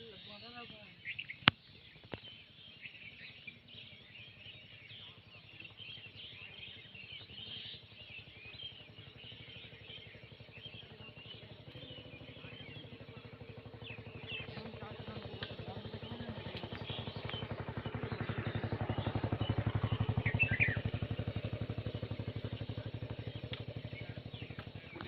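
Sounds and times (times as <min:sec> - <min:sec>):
small birds chirping: 0:00.0 - 0:25.0
low motor drone: 0:01.1 - 0:25.0.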